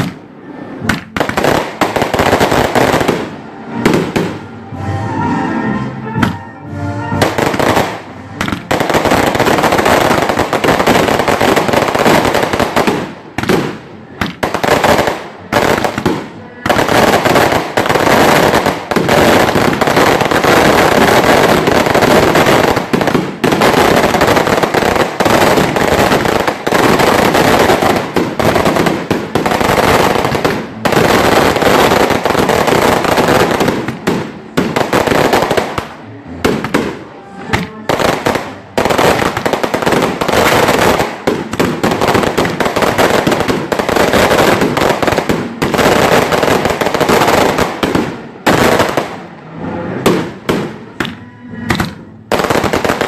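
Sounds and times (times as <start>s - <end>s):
firecrackers crackling: 0.0s - 4.6s, 7.2s - 53.0s.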